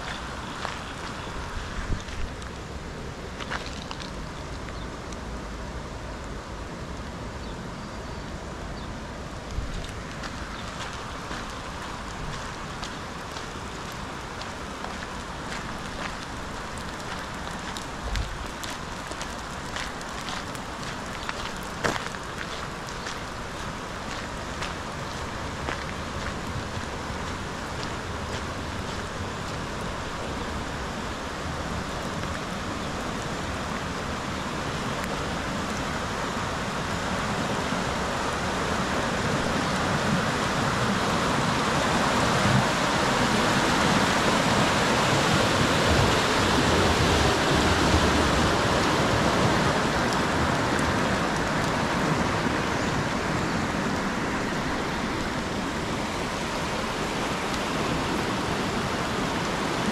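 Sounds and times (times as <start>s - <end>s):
floodwater rushing: 0.0s - 4.6s, 8.4s - 59.9s.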